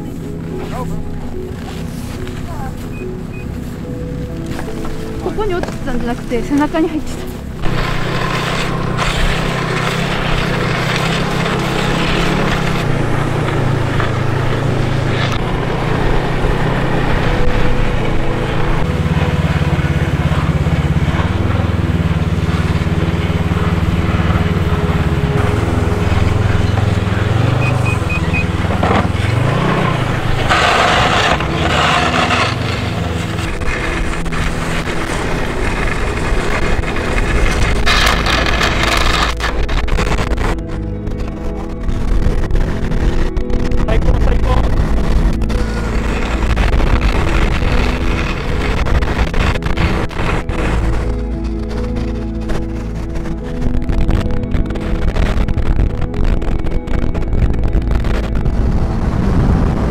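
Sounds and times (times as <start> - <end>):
rush of noise: 0.0 - 59.9
snowmobile engine running: 0.0 - 59.9.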